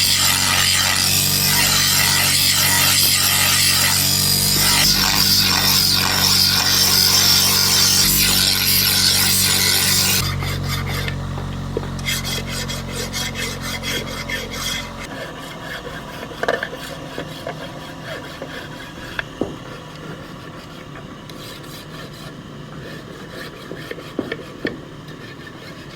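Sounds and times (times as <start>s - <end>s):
steady low hum: 0.0s - 25.1s
rasping scraping strokes: 0.0s - 25.9s.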